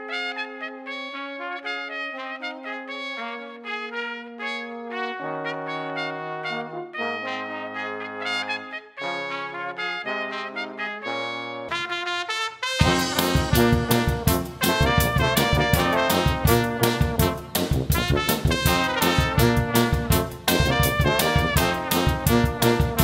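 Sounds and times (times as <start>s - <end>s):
brass band playing: 0.0s - 23.0s
tuba bass line: 0.0s - 23.0s.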